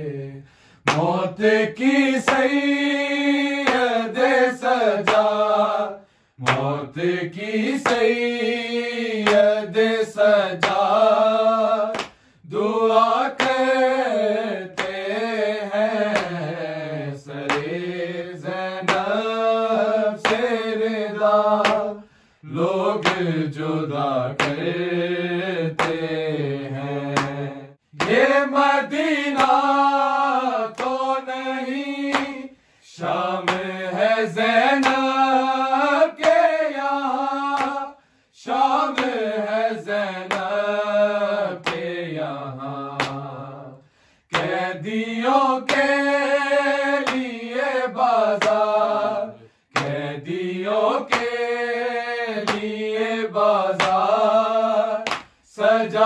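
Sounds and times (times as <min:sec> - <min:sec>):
men singing a lament unaccompanied: 0:00.0 - 0:56.0.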